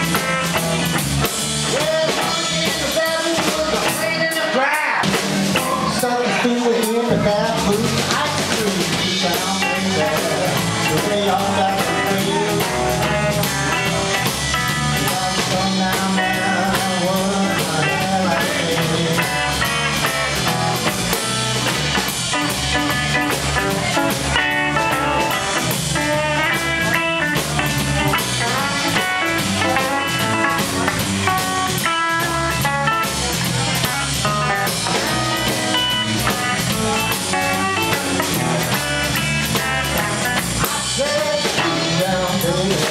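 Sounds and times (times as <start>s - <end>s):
electric guitar lead: 0.0s - 42.9s
live blues band: 0.0s - 42.9s.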